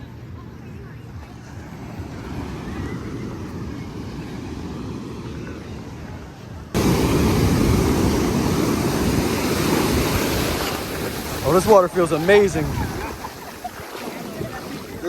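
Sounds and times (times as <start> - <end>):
ocean surf: 1.4 - 15.0
wind noise on microphone: 2.0 - 15.0.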